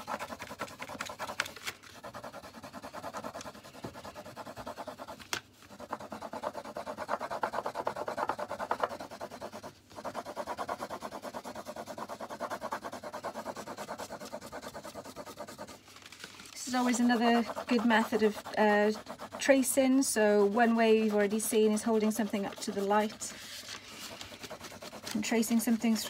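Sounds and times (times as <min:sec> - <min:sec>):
graphite scribbling on paper: 0:00.0 - 0:15.9, 0:16.6 - 0:26.0.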